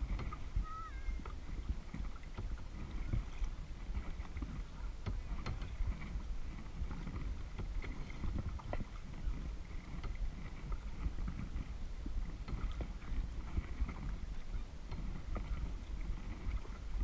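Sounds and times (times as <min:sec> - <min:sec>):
low rumble of water and wind: 0:00.0 - 0:17.0
paddle splashing in water: 0:00.0 - 0:17.0.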